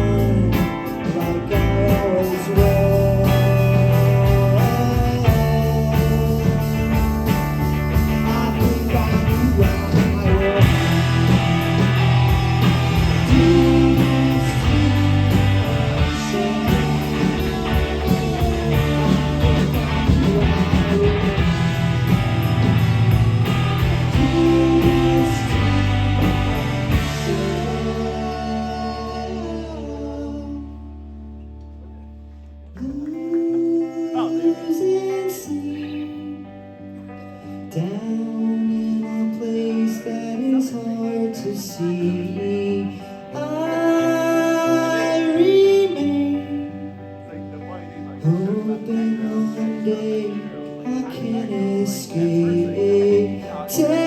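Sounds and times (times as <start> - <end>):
guitar: 0.0 - 54.0
live rock band playing: 0.0 - 54.0.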